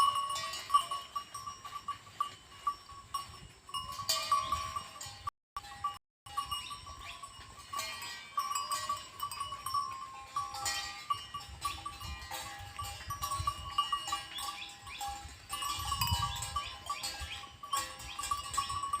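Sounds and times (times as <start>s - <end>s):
bells jingling: 0.0s - 19.0s.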